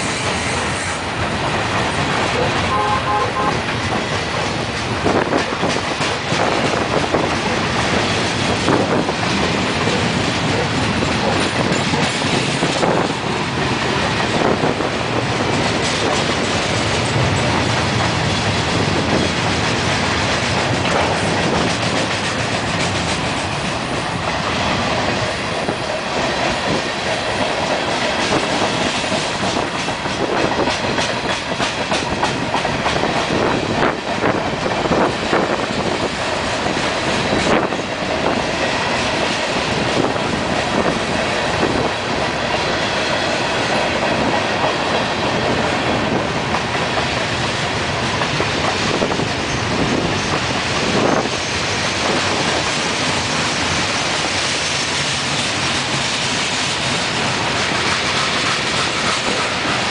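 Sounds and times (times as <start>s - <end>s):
train wheels on rails: 0.0s - 59.9s
clatter over rail joints: 3.6s - 59.9s.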